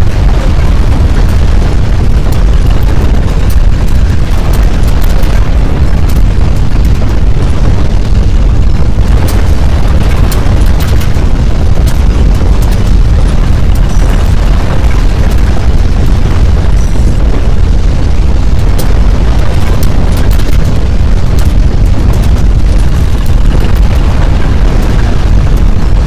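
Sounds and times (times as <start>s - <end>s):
crackles and clicks: 0.0s - 26.0s
deep earthquake rumble: 0.0s - 26.0s.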